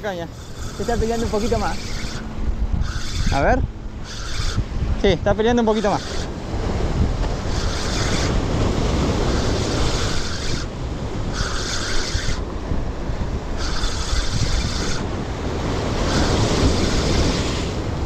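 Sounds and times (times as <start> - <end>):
wind on microphone: 0.0 - 18.0
fishing reel cranking: 0.1 - 6.3, 7.4 - 12.5, 13.5 - 15.2, 15.8 - 17.6.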